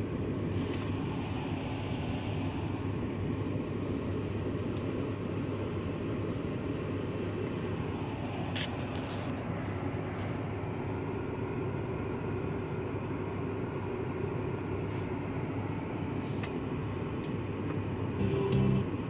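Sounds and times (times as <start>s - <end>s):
low car cabin drone: 0.0s - 19.0s.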